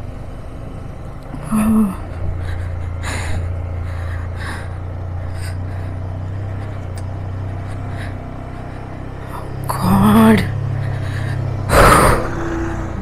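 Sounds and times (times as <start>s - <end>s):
motorcycle engine humming: 0.0s - 13.0s.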